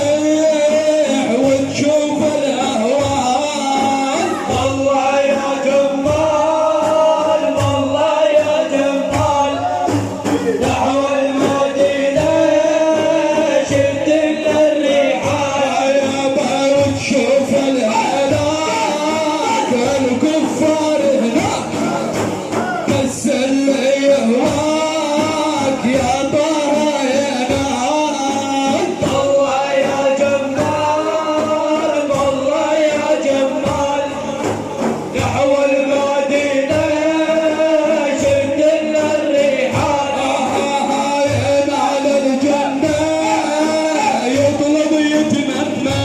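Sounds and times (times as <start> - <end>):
hand drums beating: 0.0 - 46.0
men chanting devotional song: 0.0 - 46.0.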